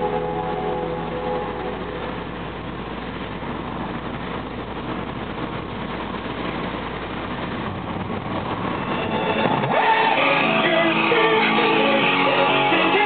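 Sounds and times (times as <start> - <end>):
car engine hum: 0.0 - 13.0
tyre and road noise: 0.0 - 13.0.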